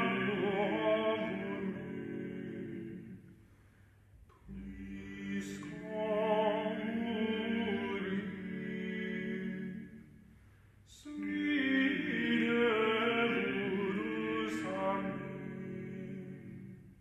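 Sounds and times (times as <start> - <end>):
male voices singing in harmony: 0.0 - 3.2, 4.5 - 10.0, 11.0 - 16.9.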